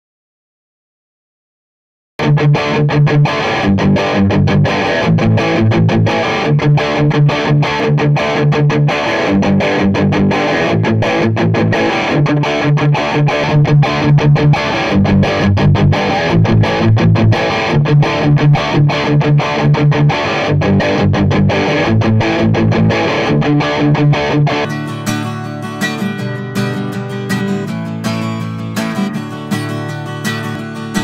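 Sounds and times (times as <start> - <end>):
acoustic guitar strummed: 2.2 - 31.0
electric guitar chords: 2.2 - 31.0.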